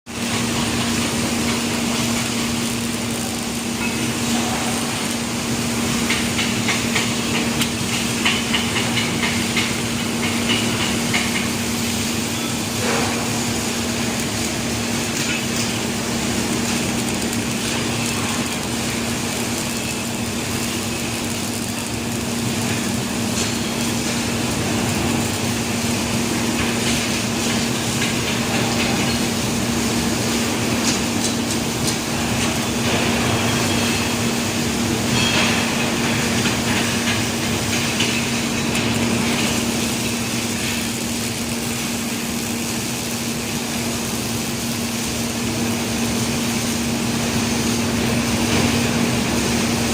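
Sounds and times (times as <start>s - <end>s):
welding hiss and crackles: 0.1s - 49.9s.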